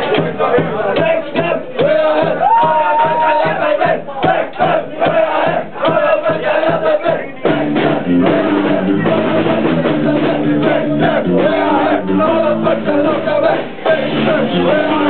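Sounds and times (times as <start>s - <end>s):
live punk band playing: 0.0s - 15.0s.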